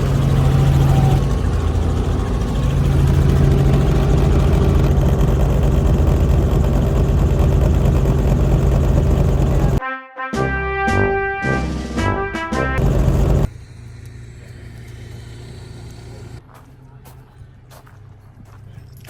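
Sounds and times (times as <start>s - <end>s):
engine running with low hum: 0.0s - 9.8s, 12.8s - 19.0s.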